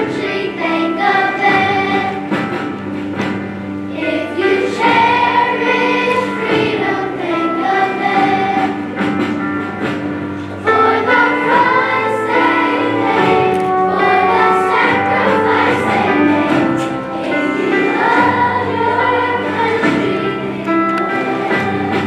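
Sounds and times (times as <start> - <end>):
children's choir singing: 0.0 - 22.0
instrumental accompaniment: 0.0 - 22.0.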